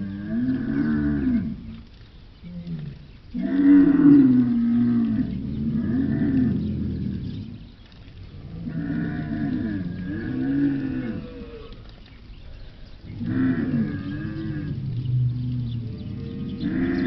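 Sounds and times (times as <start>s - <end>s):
animal low bellows: 0.0s - 1.8s, 2.4s - 7.7s, 8.3s - 12.0s, 12.6s - 17.0s.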